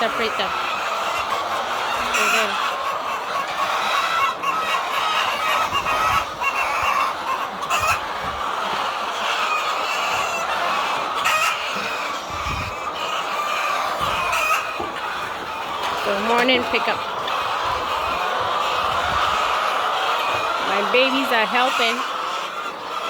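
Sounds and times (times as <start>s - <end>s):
hens clucking and cackling: 0.0s - 23.0s.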